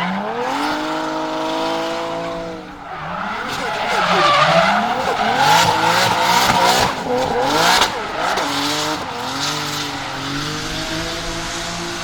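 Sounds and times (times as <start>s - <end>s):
tyres squealing: 0.0s - 10.8s
car engine revving: 0.0s - 12.0s.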